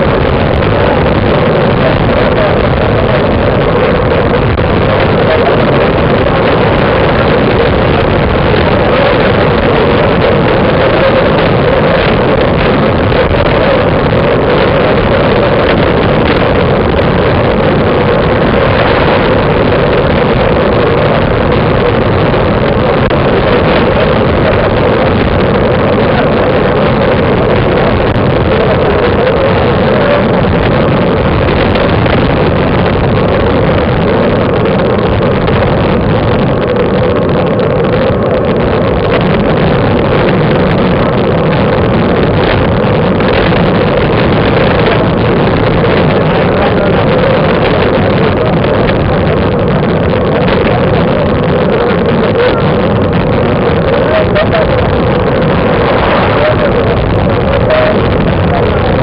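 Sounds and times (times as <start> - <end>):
road noise: 0.0 - 59.0
wind rushing over microphone: 0.0 - 59.0.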